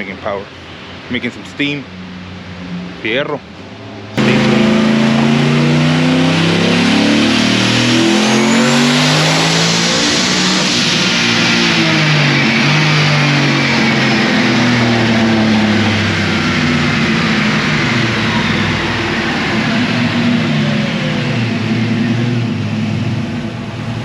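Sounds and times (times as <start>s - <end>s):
turbocharged engine revving hard: 4.2s - 24.0s.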